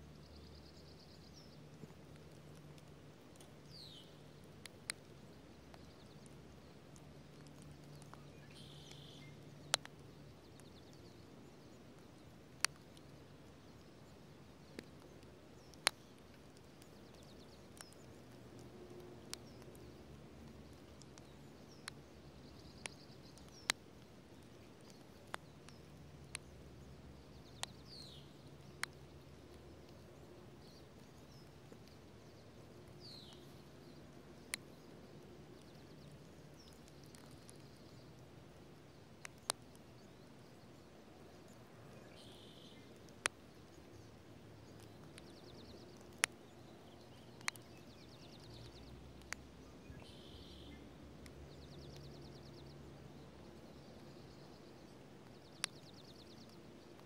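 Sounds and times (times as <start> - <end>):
faint steady hum: 0.0 - 57.0
raindrops ticking on leaves: 0.0 - 57.0.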